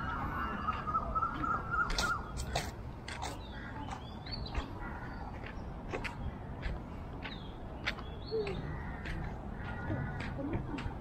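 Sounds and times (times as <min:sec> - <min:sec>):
birds sharp calls and chirps: 0:00.0 - 0:11.0.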